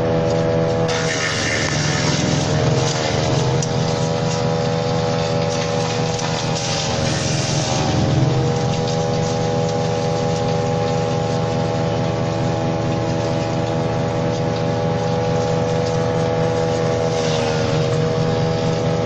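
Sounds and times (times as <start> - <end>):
branch shredder engine running: 0.0 - 19.0.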